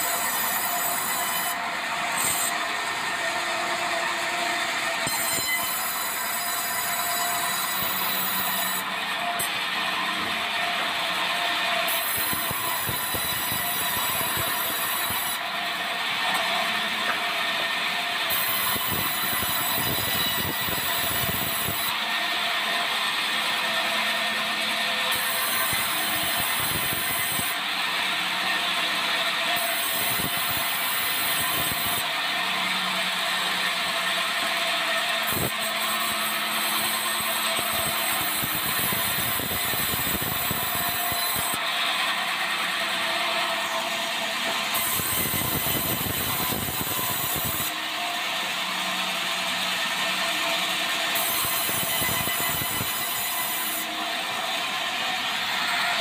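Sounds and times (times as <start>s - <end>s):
band saw cutting boards: 0.0s - 56.0s.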